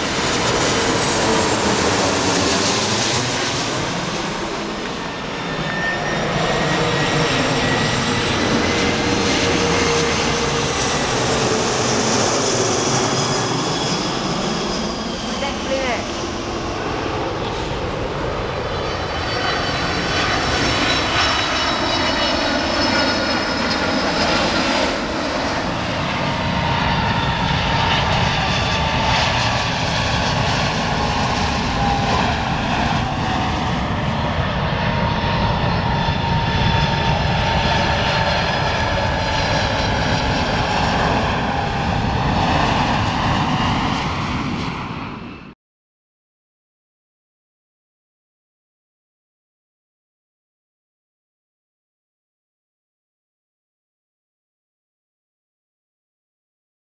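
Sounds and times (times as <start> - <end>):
jet airliner engines: 0.0 - 45.6.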